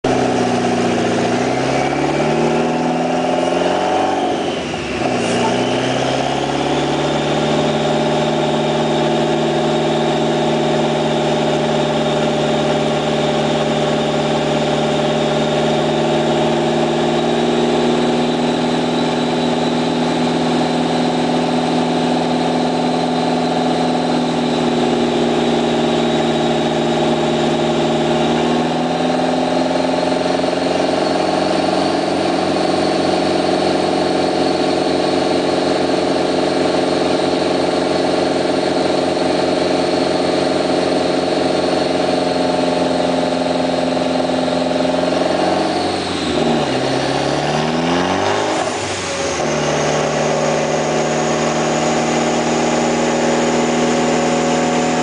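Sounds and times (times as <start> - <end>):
car engine revving on a dyno: 0.0 - 55.0.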